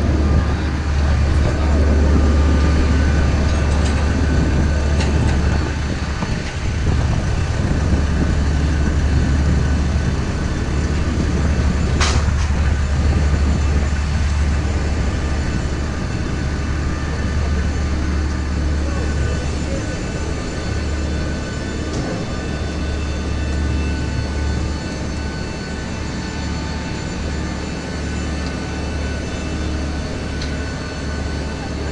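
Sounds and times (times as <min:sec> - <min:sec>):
vehicle cabin drone: 0:00.0 - 0:31.9.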